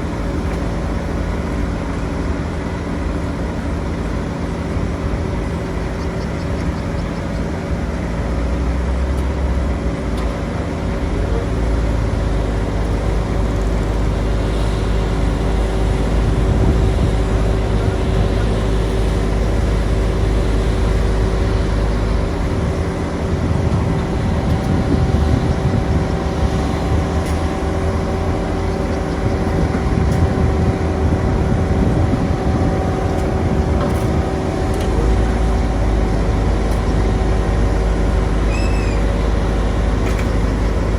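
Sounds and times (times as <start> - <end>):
heavy machinery engine rumbling: 0.0 - 40.9.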